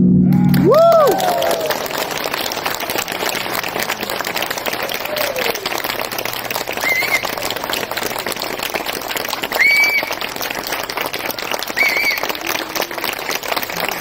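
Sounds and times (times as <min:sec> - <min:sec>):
audience applauding: 0:00.3 - 0:14.0.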